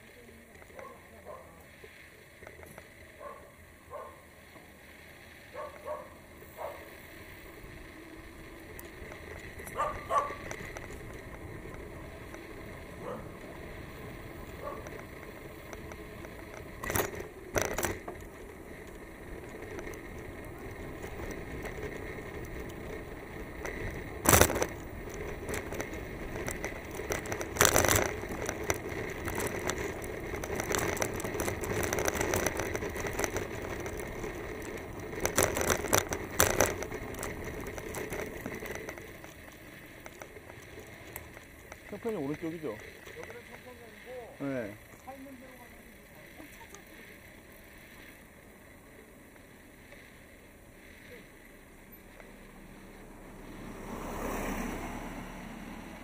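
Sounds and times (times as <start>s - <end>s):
bike clicks and rattles: 0.0s - 53.7s
bicycle tyre and wind noise: 0.0s - 56.0s.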